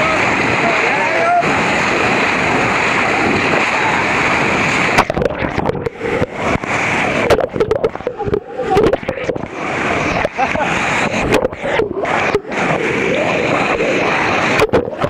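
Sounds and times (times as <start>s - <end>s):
water splashing and sloshing: 0.0s - 15.0s
whitewater rushing: 0.0s - 15.0s.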